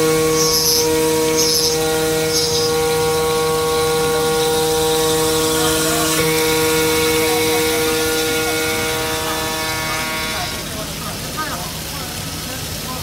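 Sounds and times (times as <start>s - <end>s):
spindle motor whine grinding glass: 0.0s - 10.9s
hiss of spraying water: 0.0s - 13.0s.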